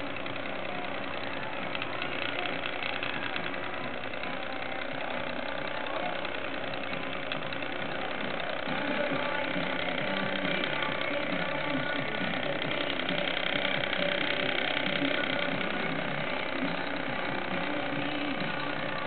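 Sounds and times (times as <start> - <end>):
small electric motor humming: 0.0 - 19.0.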